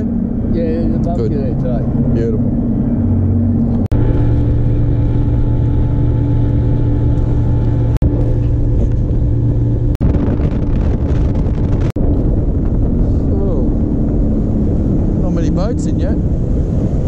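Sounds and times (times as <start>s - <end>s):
outboard motor drone: 0.0s - 17.0s.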